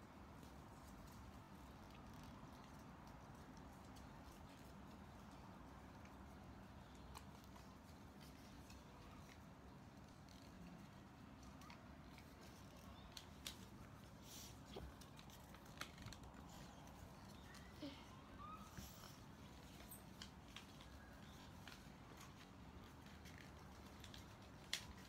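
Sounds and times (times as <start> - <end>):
crisp paper clicks: 0.3 - 17.7, 19.4 - 25.0
paper rustling and crinkling: 0.3 - 17.8, 18.7 - 25.0.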